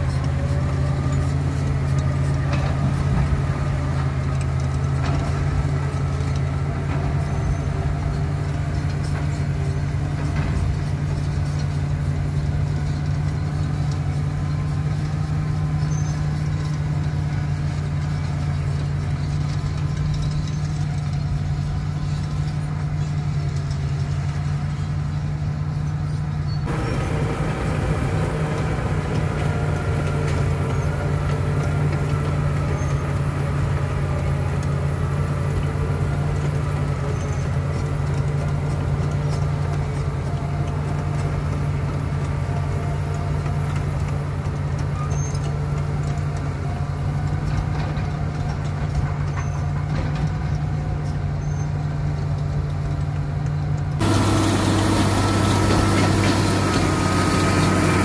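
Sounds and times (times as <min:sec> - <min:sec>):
bulldozer diesel engine droning: 0:00.0 - 0:58.0
bulldozer mechanical clatter: 0:00.0 - 0:58.0.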